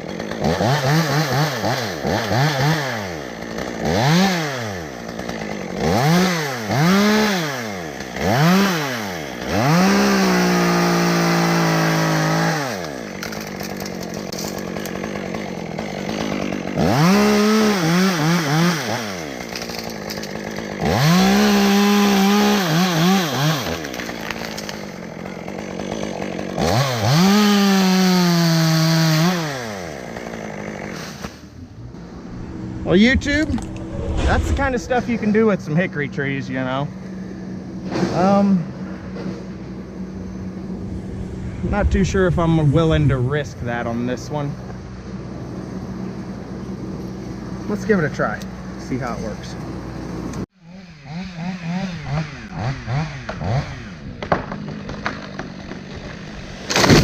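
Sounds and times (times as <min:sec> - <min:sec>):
chainsaw revving: 0:00.0 - 0:41.1, 0:43.7 - 0:57.0.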